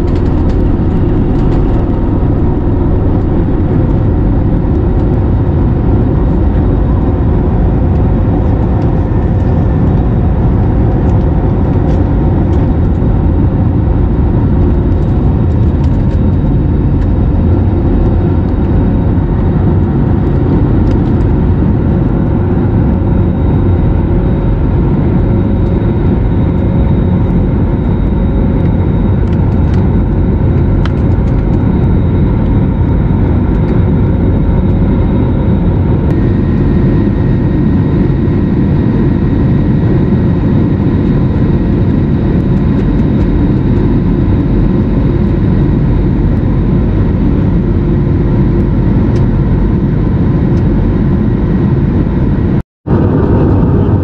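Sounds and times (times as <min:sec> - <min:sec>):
faint steady whines: 0:00.0 - 0:54.0
higher whine: 0:00.0 - 0:54.0
jet engine roar in cabin: 0:00.0 - 0:54.0.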